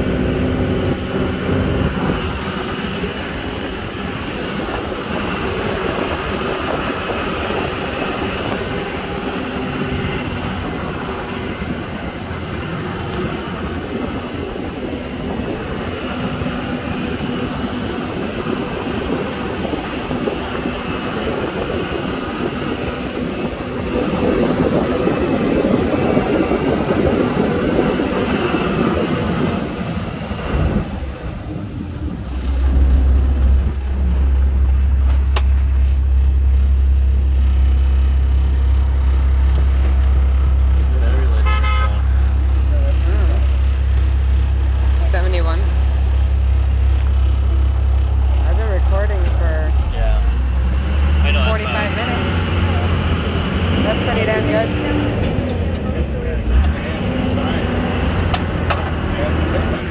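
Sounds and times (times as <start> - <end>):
boat engine running: 0.0 - 59.9
rattling rumbling ride noise: 0.0 - 59.9.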